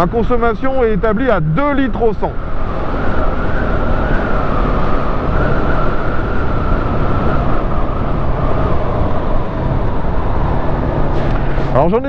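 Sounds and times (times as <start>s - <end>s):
motorcycle engine cruising: 0.0s - 12.0s
wind noise: 0.0s - 12.0s.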